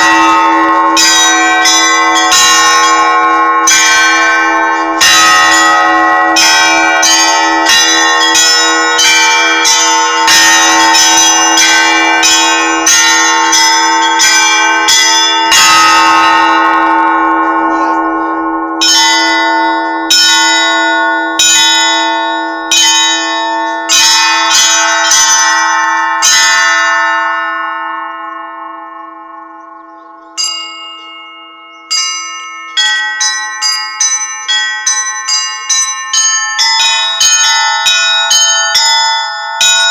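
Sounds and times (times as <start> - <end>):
large bell humming: 0.0 - 39.9
small church bells striking quickly: 0.0 - 39.9.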